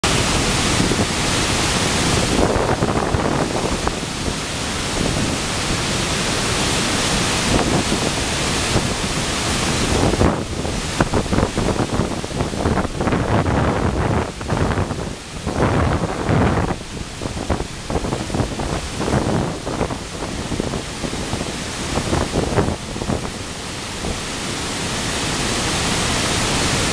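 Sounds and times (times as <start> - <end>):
rushing falling water: 0.0 - 26.9
wind buffeting microphone: 0.0 - 26.9.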